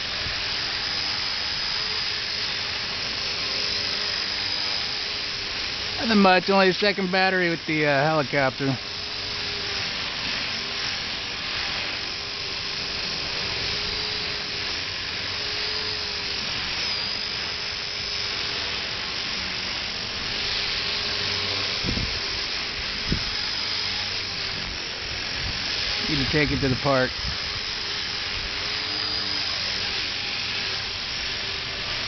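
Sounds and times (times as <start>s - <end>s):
rc helicopter motor whine: 0.0s - 32.0s
rotor blades hissing: 0.0s - 32.0s.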